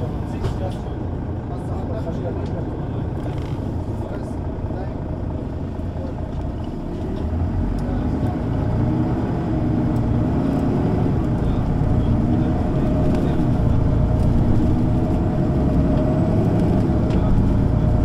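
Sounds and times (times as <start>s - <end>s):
bus diesel engine accelerating: 0.0s - 18.0s.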